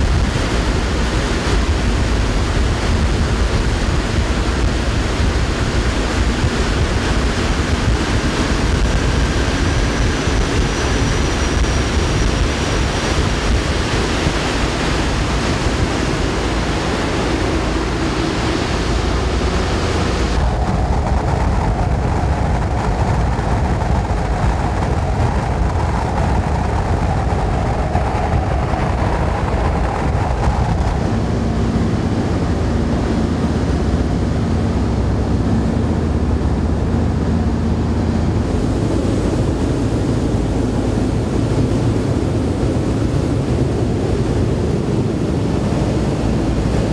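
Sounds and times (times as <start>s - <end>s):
aircraft engines droning: 0.0s - 46.9s
steady low hum: 0.0s - 46.9s.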